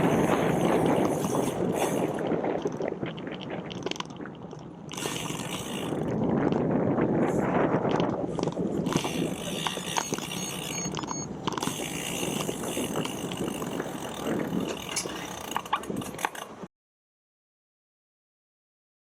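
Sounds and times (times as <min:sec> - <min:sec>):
bicycle clicking and ratcheting: 0:00.0 - 0:16.7
road and wind noise: 0:00.0 - 0:16.7.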